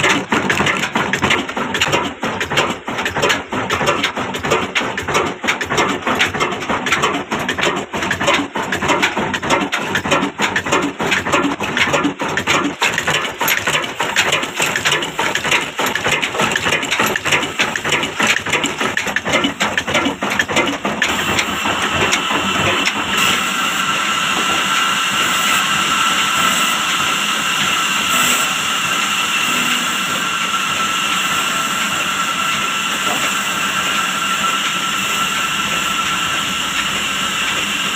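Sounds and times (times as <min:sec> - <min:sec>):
diesel engine knocking: 0:00.0 - 0:37.9.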